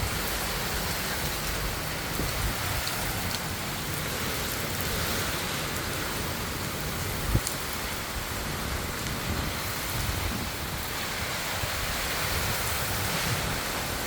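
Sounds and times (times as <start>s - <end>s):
heavy rain rushing: 0.0s - 14.0s.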